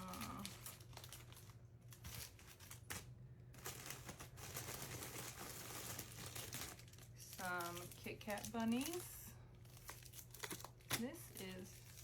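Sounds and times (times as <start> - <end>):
candy packaging crinkling: 0.0 - 12.0.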